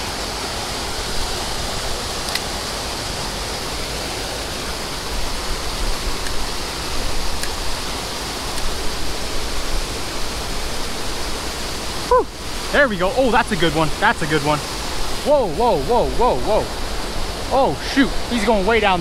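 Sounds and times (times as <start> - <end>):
fast-flowing stream water: 0.0 - 19.0.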